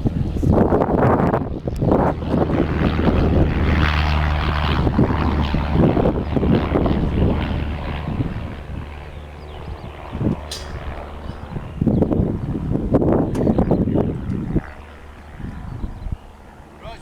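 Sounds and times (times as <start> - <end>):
light aircraft engine drone: 0.0 - 17.0
wind buffeting microphone: 0.0 - 17.0.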